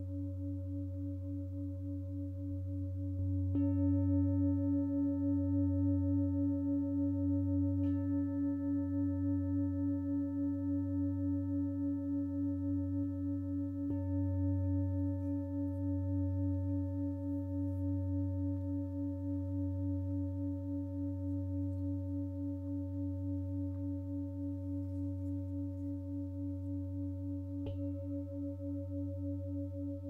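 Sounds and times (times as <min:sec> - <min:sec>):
singing bowl ringing: 0:03.2 - 0:30.0.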